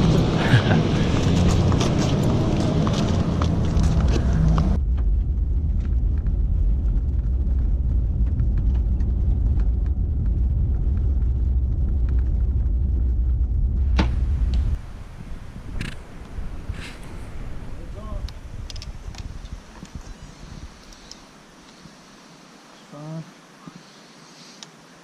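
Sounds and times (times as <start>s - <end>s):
vehicle engine and road rumble: 0.0s - 21.6s.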